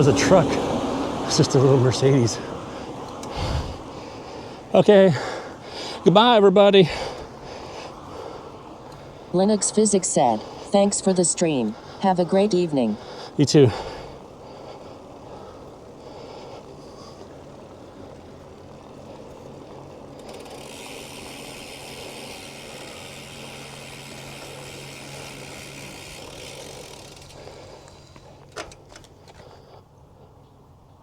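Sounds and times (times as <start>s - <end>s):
bicycle freewheel ticking: 0.0s - 29.6s.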